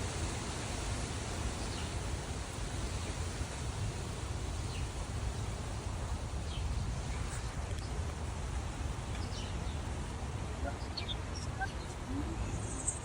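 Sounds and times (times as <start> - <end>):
wind rumble on microphone: 0.0 - 13.0
wind rushing through trees: 0.0 - 13.0.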